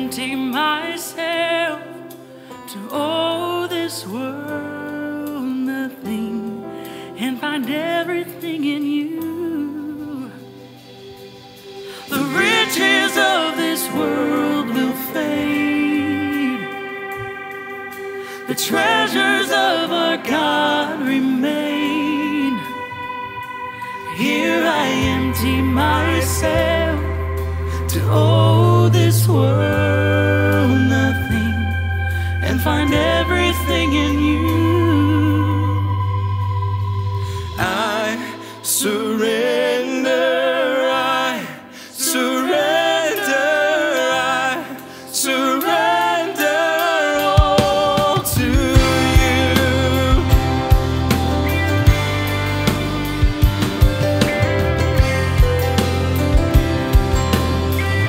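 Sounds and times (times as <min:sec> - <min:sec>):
person singing with vibrato: 0:00.0 - 0:55.4
piano and band chords: 0:00.0 - 0:58.0.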